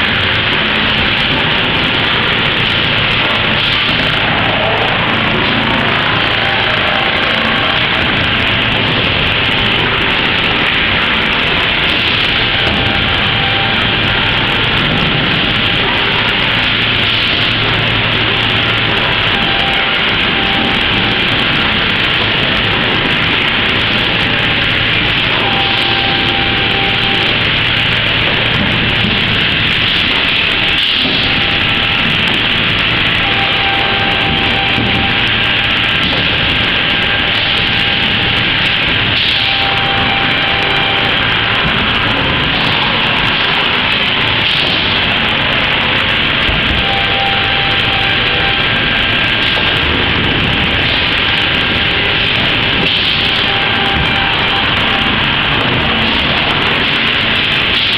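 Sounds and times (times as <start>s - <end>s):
belt conveyors running: 0.0s - 57.9s.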